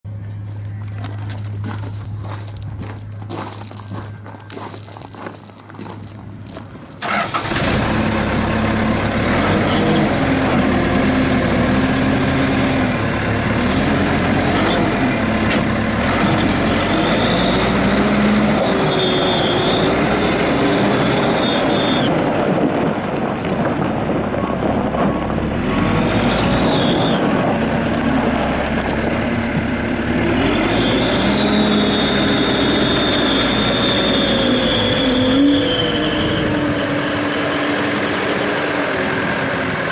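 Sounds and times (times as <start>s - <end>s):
backhoe diesel engine running: 0.1s - 39.9s.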